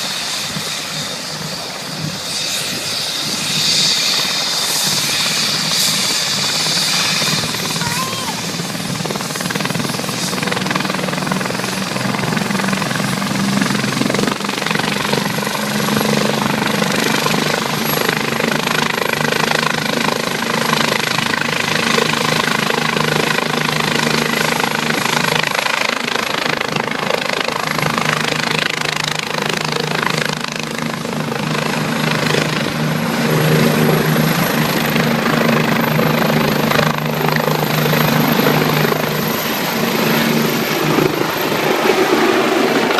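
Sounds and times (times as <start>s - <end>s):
helicopter engines and rotor: 0.0s - 42.9s.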